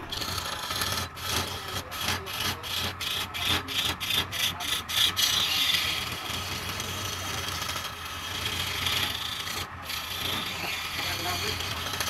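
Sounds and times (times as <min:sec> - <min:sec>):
gouge scraping wood on lathe: 0:00.0 - 0:12.0.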